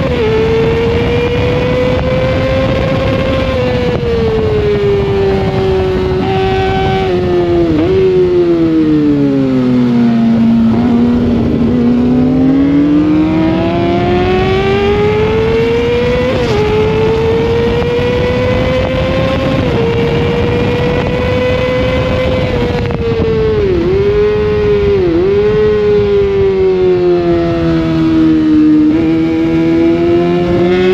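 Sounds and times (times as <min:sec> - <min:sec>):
motorcycle engine revving hard: 0:00.0 - 0:30.9
wind rush: 0:00.0 - 0:30.9.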